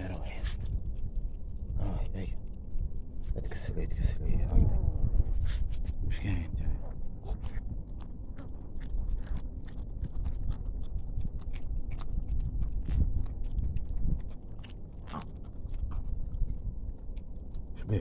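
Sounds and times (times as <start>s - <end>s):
kittens chewing raw meat: 0.0s - 4.7s, 5.4s - 18.0s
low rumble: 0.0s - 18.0s.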